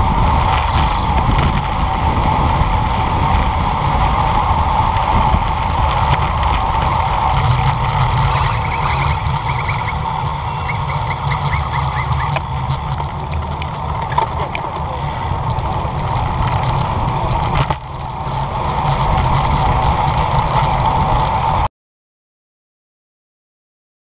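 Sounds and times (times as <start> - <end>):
bicycle road noise: 0.0 - 21.7
wind rushing over microphone: 0.0 - 21.7.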